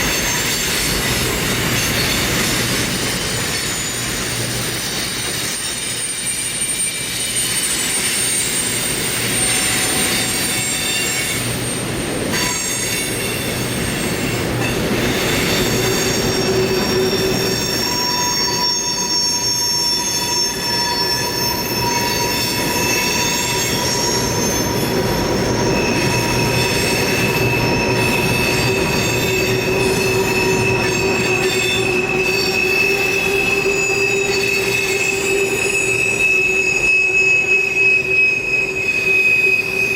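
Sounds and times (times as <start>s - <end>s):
steel wheels squealing on rail: 0.0s - 39.9s
train rumble: 0.0s - 39.9s.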